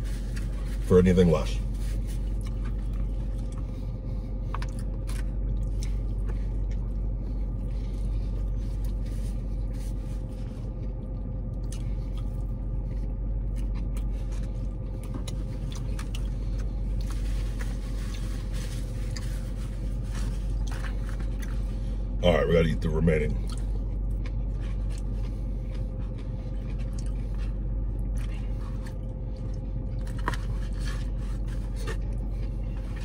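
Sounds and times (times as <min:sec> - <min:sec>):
low hum inside a car: 0:00.0 - 0:33.0
man chewing a burger: 0:00.0 - 0:33.0.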